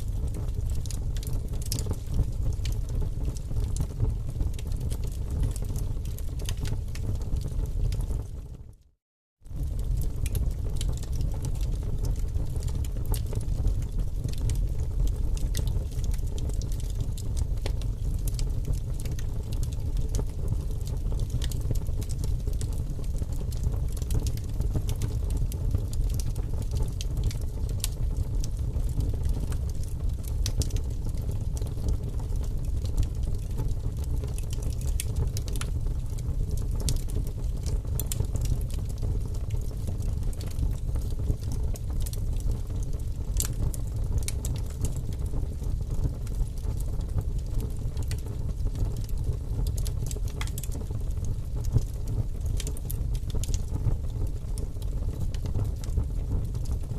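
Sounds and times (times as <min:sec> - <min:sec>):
fire low rumble: 0:00.0 - 0:08.8, 0:09.4 - 0:56.9
firewood crackling and popping: 0:00.1 - 0:08.7, 0:09.5 - 0:56.9.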